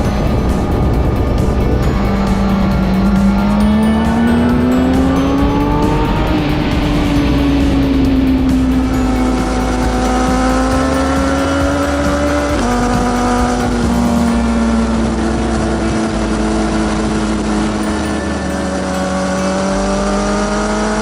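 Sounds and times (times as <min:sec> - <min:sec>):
low wind rumble: 0:00.0 - 0:21.0
motorcycle engine at speed: 0:00.0 - 0:21.0.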